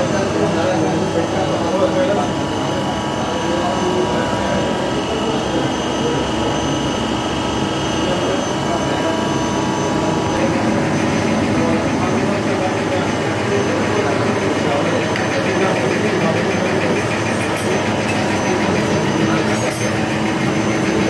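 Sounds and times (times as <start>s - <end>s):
factory machinery running: 0.0s - 21.0s
high machine whine: 0.0s - 21.0s.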